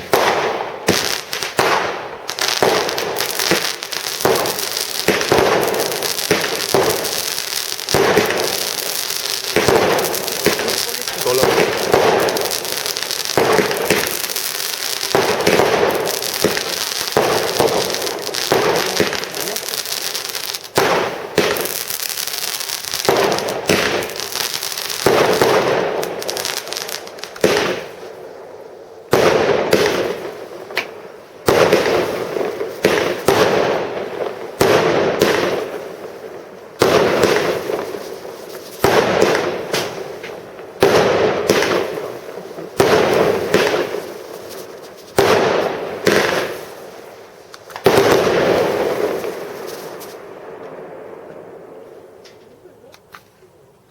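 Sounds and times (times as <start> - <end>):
fireworks bangs and crackle: 0.0 - 53.3.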